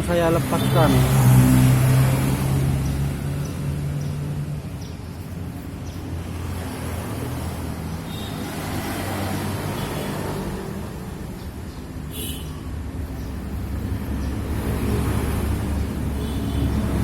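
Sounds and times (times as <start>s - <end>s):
low rumble of motor vehicles: 0.0s - 17.0s.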